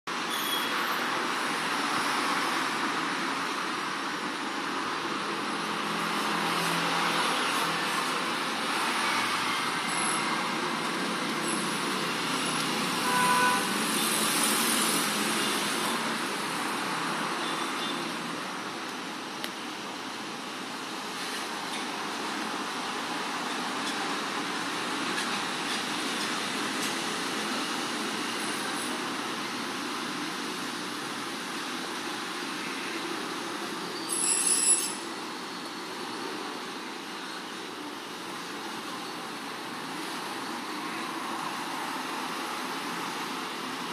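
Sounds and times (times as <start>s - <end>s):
outdoor background rush: 0.0s - 43.9s.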